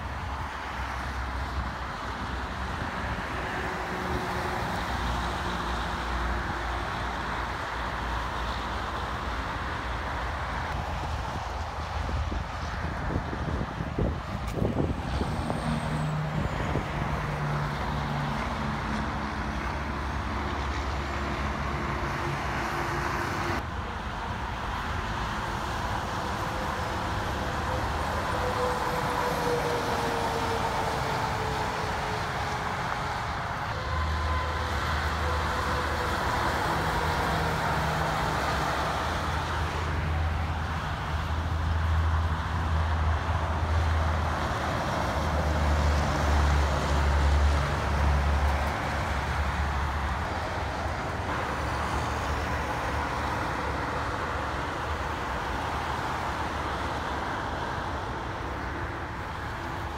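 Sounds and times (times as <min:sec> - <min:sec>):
diesel truck engines passing: 0:00.0 - 0:59.9
highway tyre noise: 0:00.0 - 0:59.9.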